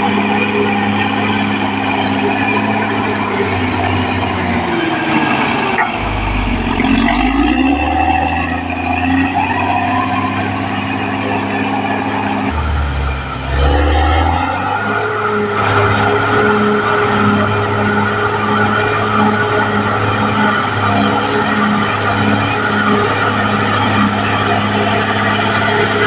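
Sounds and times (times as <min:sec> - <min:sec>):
bulldozer diesel engine running hard: 0:00.0 - 0:26.0.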